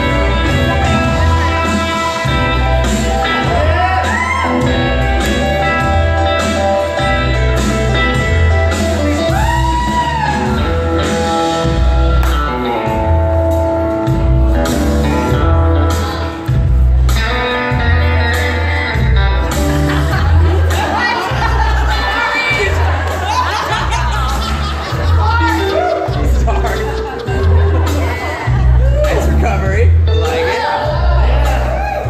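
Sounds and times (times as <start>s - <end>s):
blues guitar music: 0.0s - 32.0s
stepping bass line: 0.0s - 32.0s.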